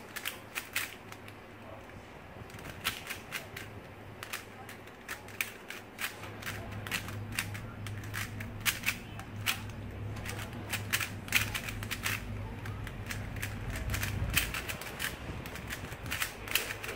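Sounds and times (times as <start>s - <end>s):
plastic cube clicking as twisted: 0.0s - 1.4s, 2.5s - 16.9s.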